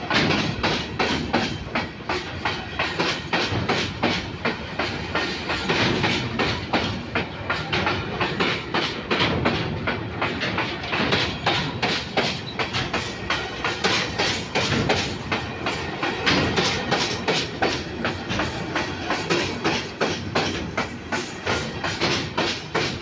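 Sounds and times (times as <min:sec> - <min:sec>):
train rumble: 0:00.0 - 0:23.0
train wheels clacking over rail joints: 0:00.0 - 0:23.0.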